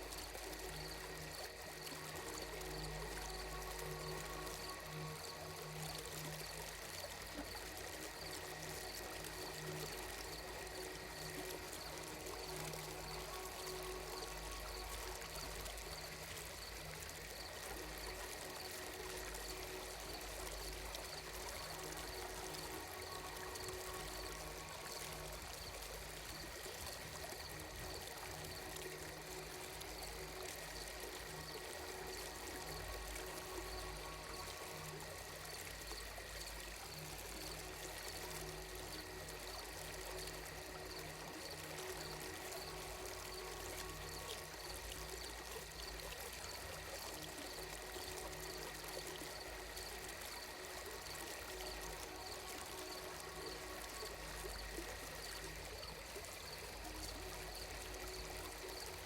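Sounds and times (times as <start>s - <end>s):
faint sustained tones: 0.0s - 59.0s
low steady drone: 0.0s - 59.0s
softly running water: 0.0s - 59.0s
trickling stream: 0.0s - 59.0s.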